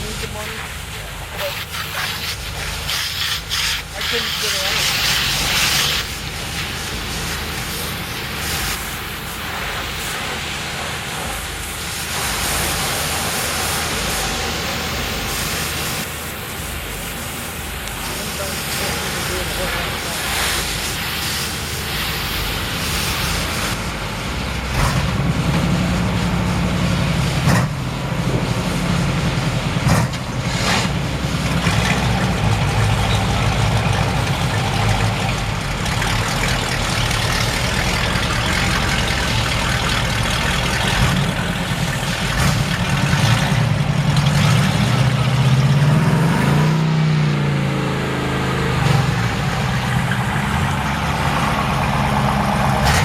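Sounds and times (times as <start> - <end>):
constant hiss: 0.0 - 46.0
truck engine running: 0.0 - 53.0.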